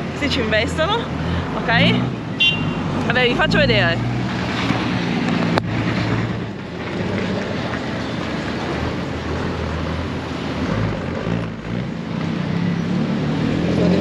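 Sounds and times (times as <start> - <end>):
bus and cars passing: 0.0 - 14.0.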